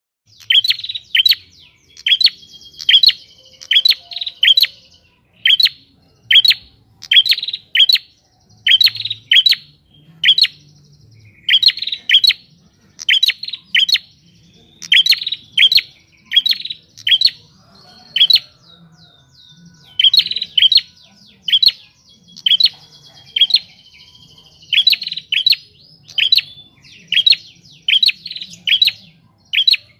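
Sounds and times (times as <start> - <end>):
bird chirping: 0.3 - 29.9.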